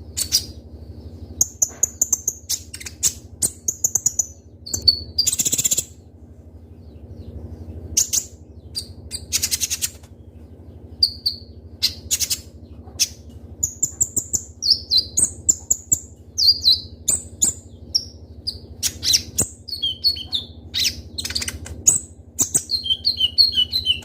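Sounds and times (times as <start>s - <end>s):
bird chirping: 0.0s - 24.0s
low hum: 0.0s - 24.0s.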